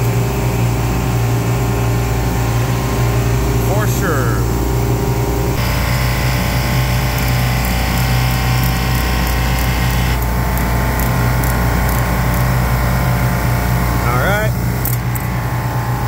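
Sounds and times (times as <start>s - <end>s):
refrigeration compressor humming: 0.0s - 16.0s.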